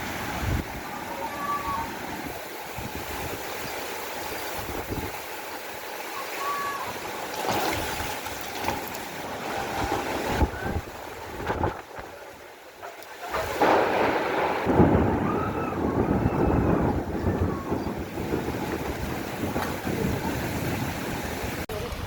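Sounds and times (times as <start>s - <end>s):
wind gusting on microphone: 0.0s - 6.2s, 6.8s - 22.0s
rainstorm water rushing: 0.0s - 22.0s.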